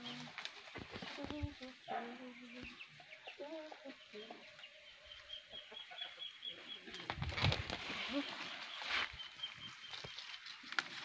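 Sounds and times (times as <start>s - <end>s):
chickens clucking: 0.0s - 10.5s.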